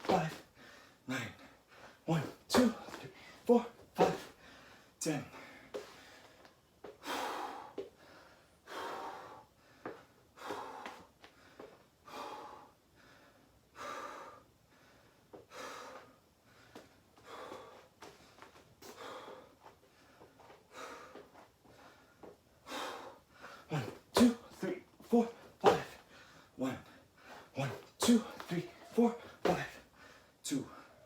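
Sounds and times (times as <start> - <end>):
man breathing hard: 0.0 - 31.0.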